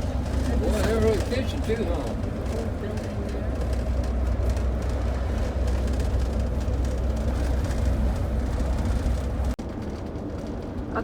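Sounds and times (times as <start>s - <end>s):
engine and road noise: 0.0s - 11.0s.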